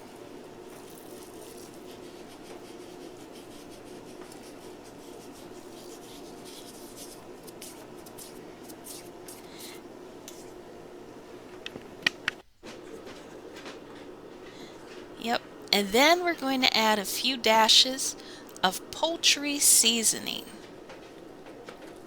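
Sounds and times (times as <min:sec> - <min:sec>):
room hum: 0:00.0 - 0:22.0.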